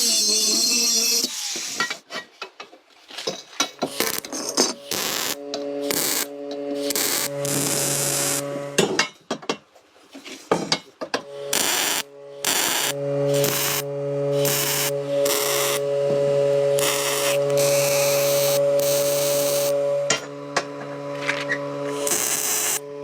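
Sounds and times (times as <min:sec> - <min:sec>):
power tool grinding: 0:00.0 - 0:02.1, 0:03.6 - 0:08.8, 0:11.1 - 0:23.0.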